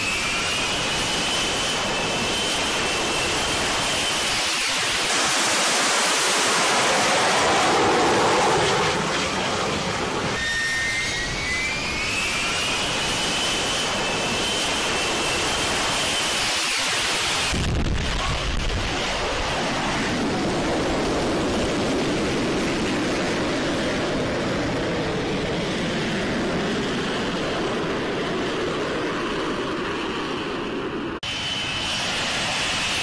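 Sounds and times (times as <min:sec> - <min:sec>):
jet engine rush: 0:00.0 - 0:33.0
jet engine whining: 0:00.0 - 0:33.0.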